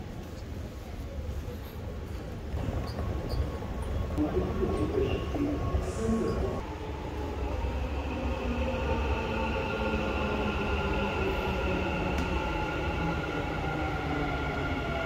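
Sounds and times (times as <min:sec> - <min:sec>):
metro train electric whine: 0:02.5 - 0:15.0.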